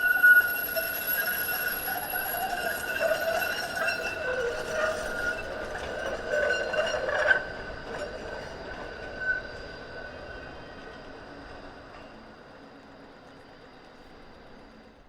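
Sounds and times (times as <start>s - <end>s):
tram wheels squealing on curve: 0.0s - 12.1s.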